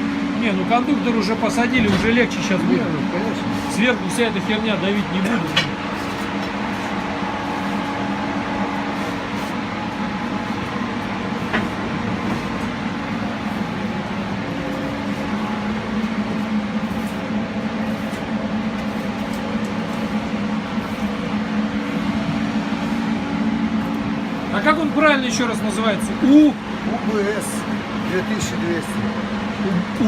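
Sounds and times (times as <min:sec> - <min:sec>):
drilling rig machinery drone: 0:00.0 - 0:30.0.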